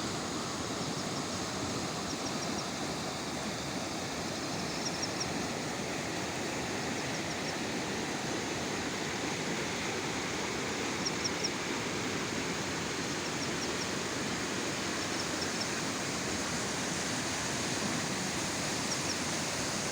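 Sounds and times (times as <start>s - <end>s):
river rushing in flood: 0.0s - 19.9s.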